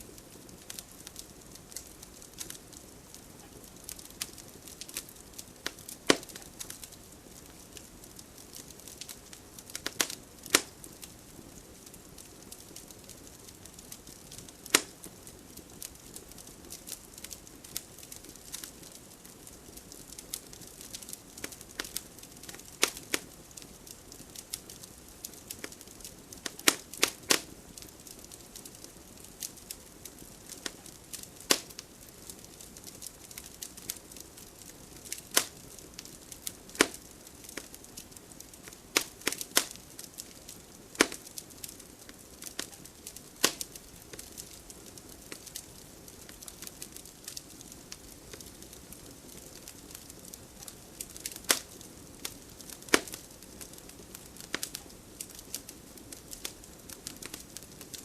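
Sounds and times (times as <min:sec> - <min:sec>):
fire crackling and popping: 0:00.0 - 0:58.0
soft hiss of burning: 0:00.0 - 0:58.0.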